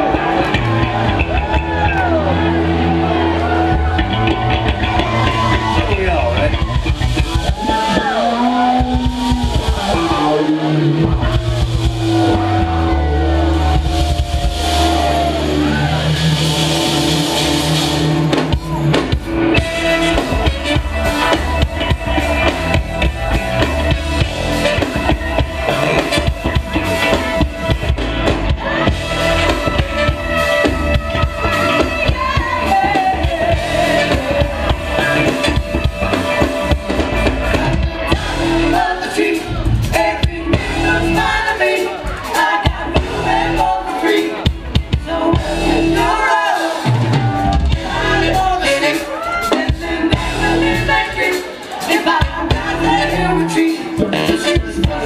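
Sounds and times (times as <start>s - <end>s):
drums with steady beat: 0.0s - 2.5s, 3.6s - 55.0s
live funk band playing: 0.0s - 55.0s.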